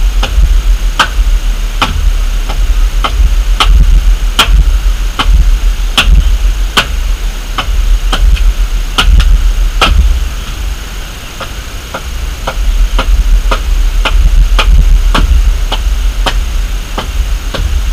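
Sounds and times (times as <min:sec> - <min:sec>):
low rumble: 0:00.0 - 0:17.9.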